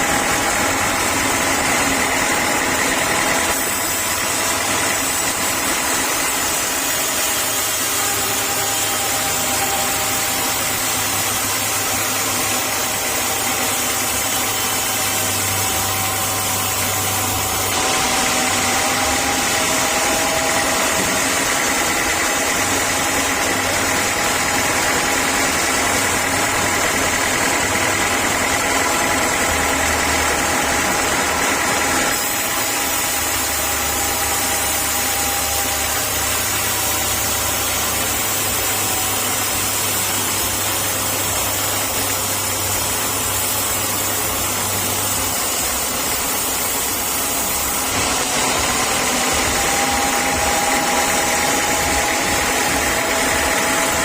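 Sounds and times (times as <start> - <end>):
sawmill machinery humming and whining: 0.0 - 54.0.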